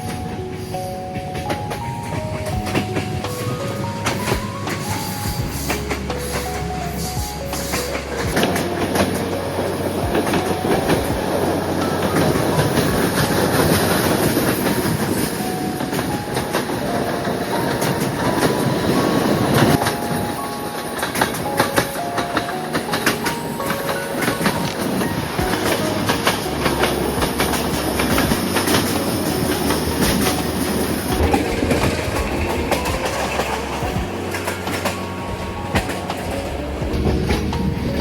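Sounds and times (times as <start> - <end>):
train rail rumble: 0.0 - 38.0
wheels clattering over rail joints: 0.0 - 38.0.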